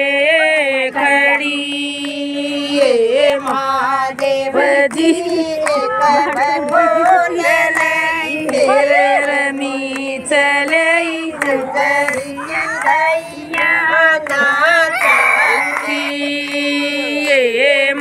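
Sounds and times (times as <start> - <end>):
women singing devotional song: 0.0 - 18.0.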